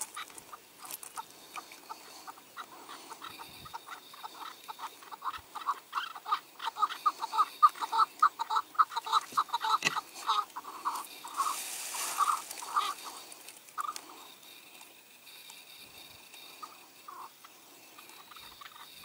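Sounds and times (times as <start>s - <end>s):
partridge clucking calls: 0.0s - 19.0s.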